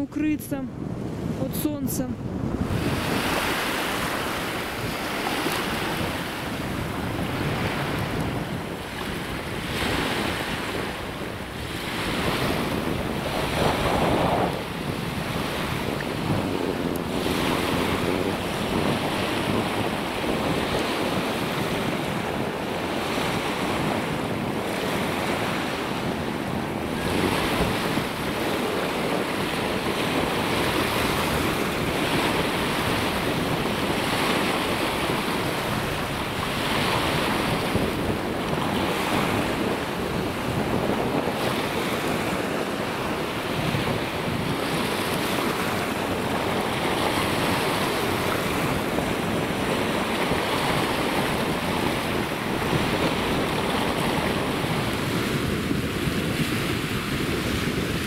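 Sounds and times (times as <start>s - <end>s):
waves breaking on sandy beach: 0.0s - 58.0s
wind blowing across microphone: 0.0s - 58.0s.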